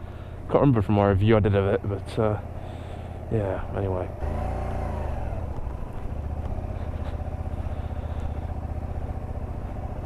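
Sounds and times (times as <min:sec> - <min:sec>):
motorcycle engine running hard: 0:01.8 - 0:10.0.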